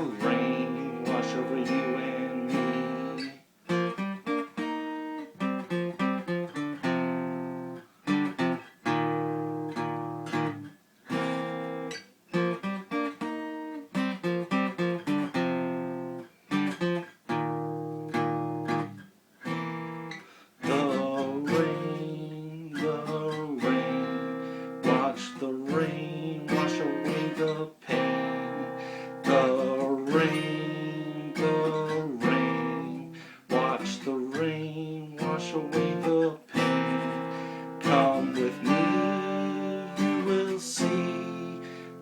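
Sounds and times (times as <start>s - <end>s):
acoustic guitar blues playing: 0.0s - 42.0s.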